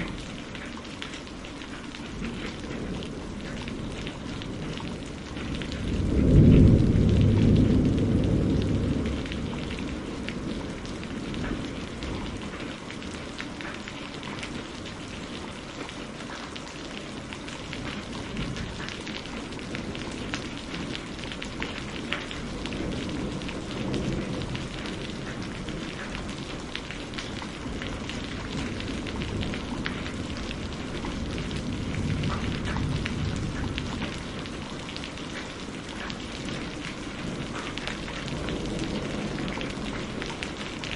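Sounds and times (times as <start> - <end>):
steady rain falling: 0.0 - 40.9
thunder rumbling: 0.0 - 40.9.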